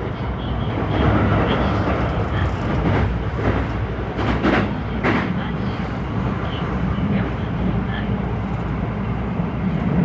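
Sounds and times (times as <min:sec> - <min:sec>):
electric train rumble: 0:00.0 - 0:10.0.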